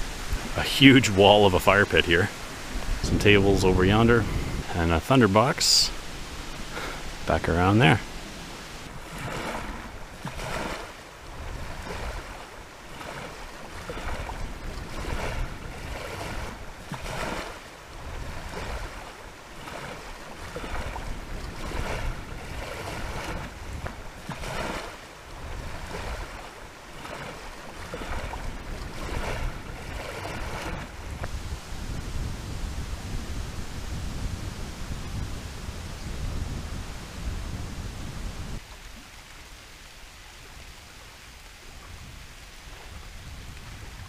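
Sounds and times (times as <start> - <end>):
waves washing on shore: 0.0 - 44.0
wind rumbling on microphone: 0.0 - 44.0.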